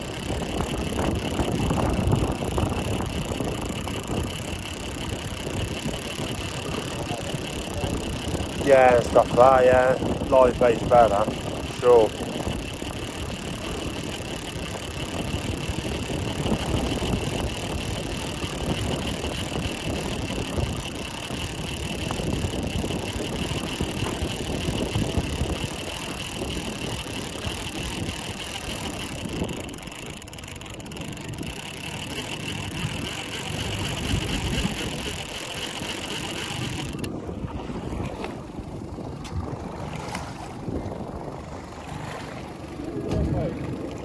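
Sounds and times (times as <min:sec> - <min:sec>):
boat motor whine: 0:00.0 - 0:44.0
wind buffeting microphone: 0:00.0 - 0:44.0.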